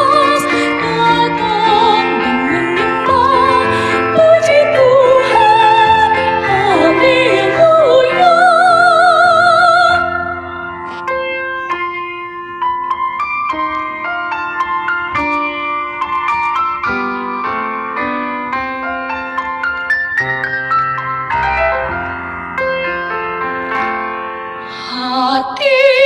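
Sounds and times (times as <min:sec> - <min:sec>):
piano accompaniment: 0:00.0 - 0:26.0.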